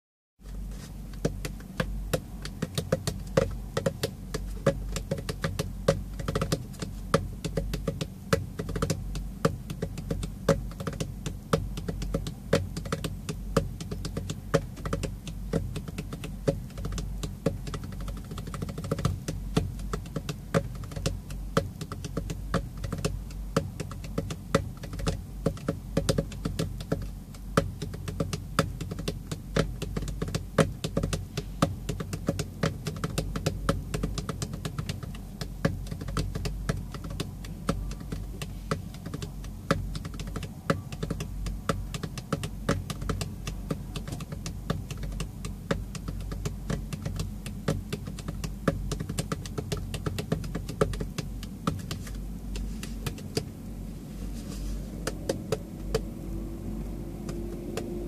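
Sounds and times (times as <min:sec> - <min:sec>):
steady low rumble: 0:00.4 - 0:58.0
fingers drumming on plastic bottle: 0:00.7 - 0:53.5, 0:54.9 - 0:58.0.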